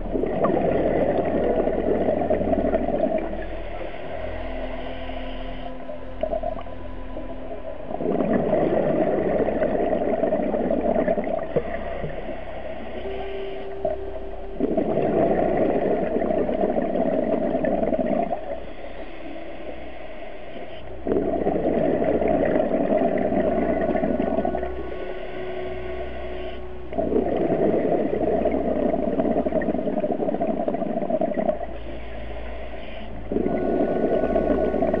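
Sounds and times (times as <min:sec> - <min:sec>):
bubbling regulator exhalations: 0:00.0 - 0:19.8, 0:20.6 - 0:35.0.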